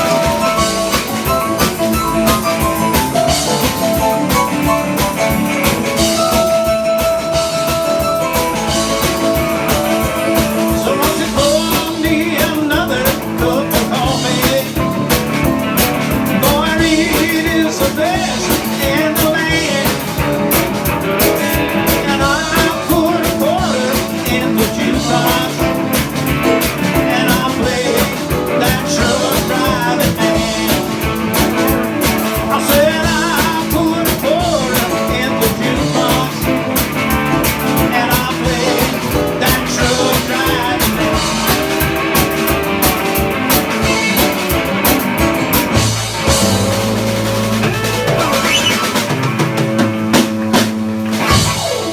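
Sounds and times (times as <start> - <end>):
drums: 0.0 - 51.9
electric guitar: 0.0 - 51.9
rock and roll band playing: 0.0 - 51.9.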